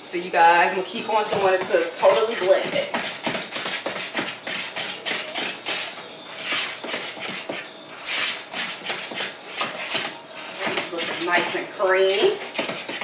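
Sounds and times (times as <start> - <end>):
spoon stirring thick batter: 0.8 - 13.0.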